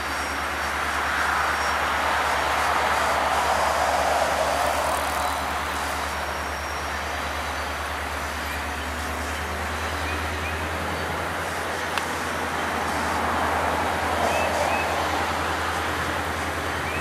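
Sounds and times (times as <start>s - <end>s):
even hiss: 0.0s - 16.9s
diesel locomotive engine rumble: 0.0s - 17.0s.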